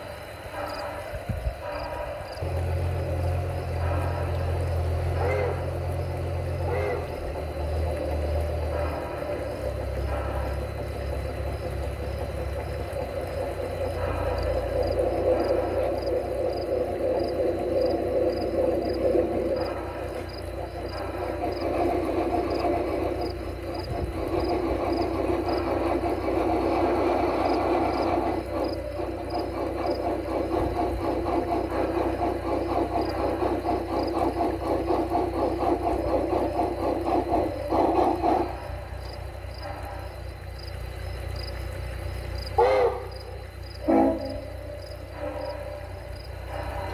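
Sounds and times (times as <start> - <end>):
model steam locomotive running: 0.0 - 46.9.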